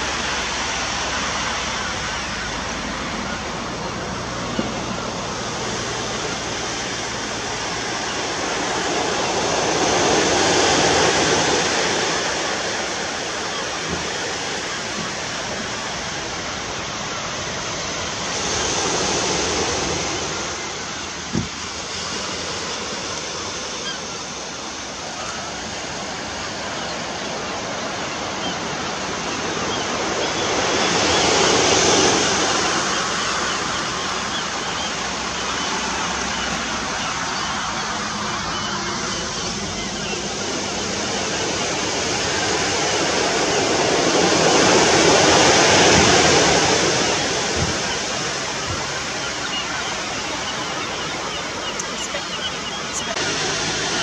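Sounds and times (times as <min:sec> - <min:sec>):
waves breaking on beach: 0:00.0 - 0:54.0.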